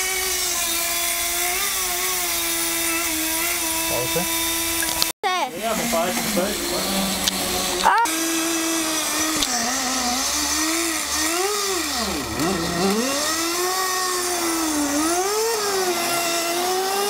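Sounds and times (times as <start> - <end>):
model engine buzzing: 0.0 - 17.0.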